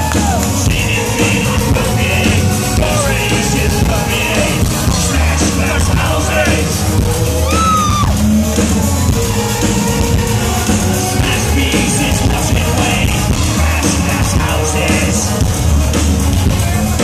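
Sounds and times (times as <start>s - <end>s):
electro-industrial band playing live: 0.0s - 17.0s.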